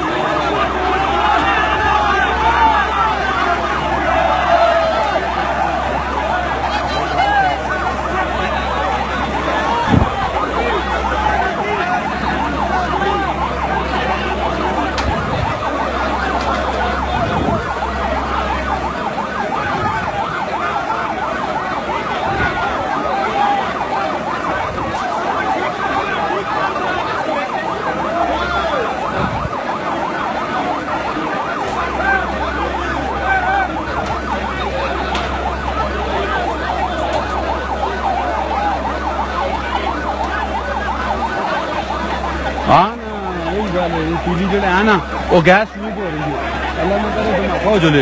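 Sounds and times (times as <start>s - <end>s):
emergency siren yelping: 0.0s - 48.0s
large crowd noise: 0.0s - 48.0s.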